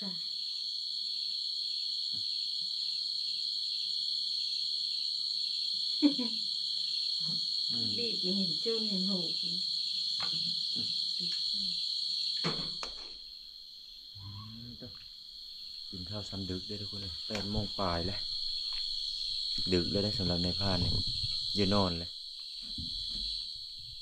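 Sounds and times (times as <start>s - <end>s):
chorus of night insects: 0.0s - 24.0s.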